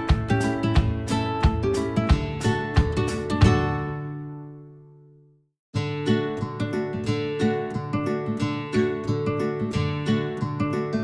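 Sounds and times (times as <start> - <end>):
music with strummed guitar: 0.0 - 5.1, 5.8 - 11.0.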